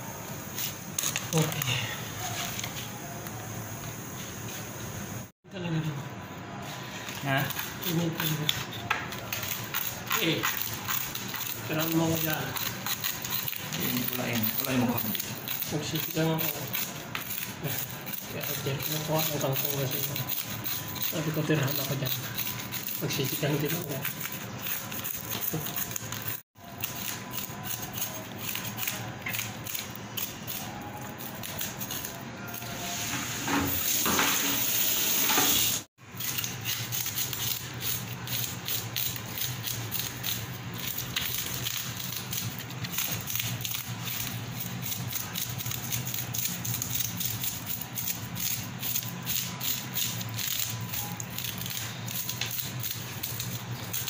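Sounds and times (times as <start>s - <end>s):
knife scraping fish scales: 0.5s - 2.8s, 6.6s - 33.1s, 36.1s - 54.0s.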